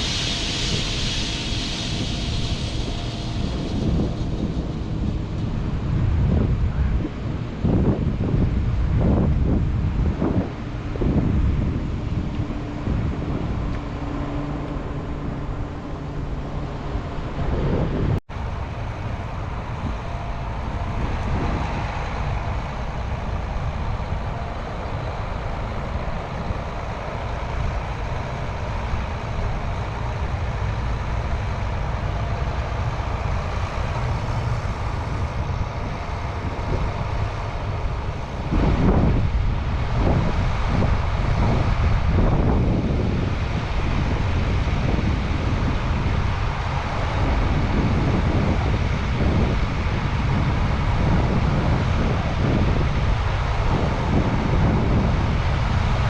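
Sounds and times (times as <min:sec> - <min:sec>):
heavy vehicle engine running: 0:00.0 - 0:56.0
wind rumble on microphone: 0:00.0 - 0:56.0.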